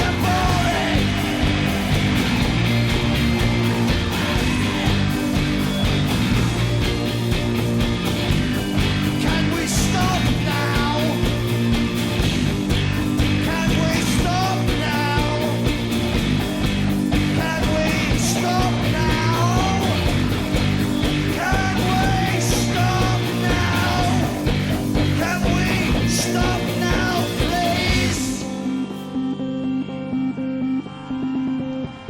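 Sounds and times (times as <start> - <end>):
drum beat: 0.0 - 28.4
live rock band playing: 0.0 - 29.7.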